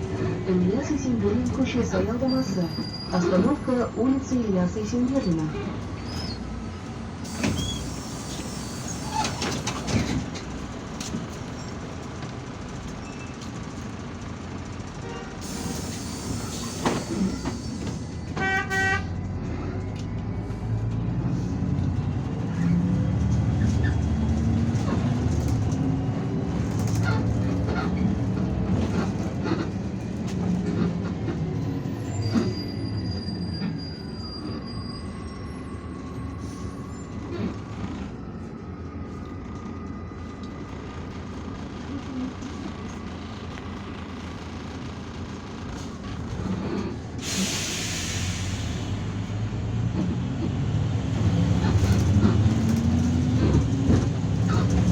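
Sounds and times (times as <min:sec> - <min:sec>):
bus engine: 0:00.0 - 0:54.9.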